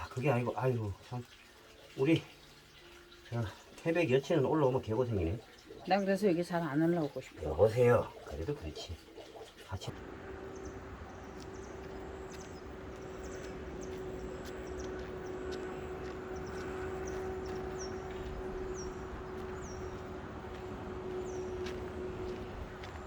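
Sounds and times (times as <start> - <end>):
bird chirping: 1.1 - 22.4.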